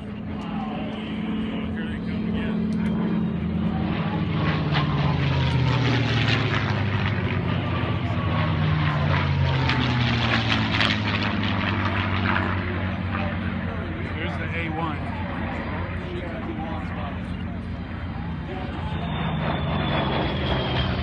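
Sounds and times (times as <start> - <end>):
propeller airplane flying past: 0.0 - 21.0.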